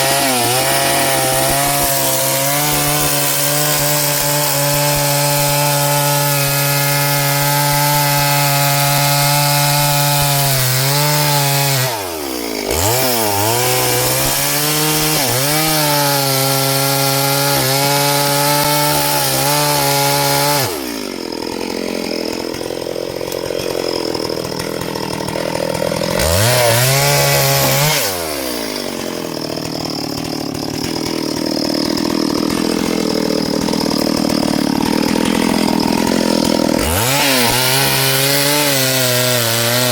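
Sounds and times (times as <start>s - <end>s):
small chainsaw revving: 0.0s - 39.9s.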